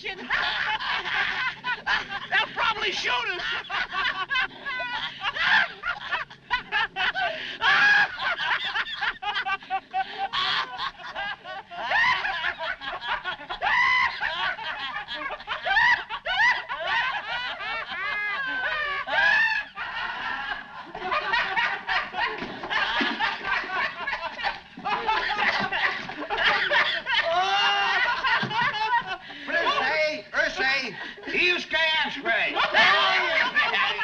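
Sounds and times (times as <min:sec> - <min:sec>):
men laughing hysterically: 0:00.0 - 0:34.0.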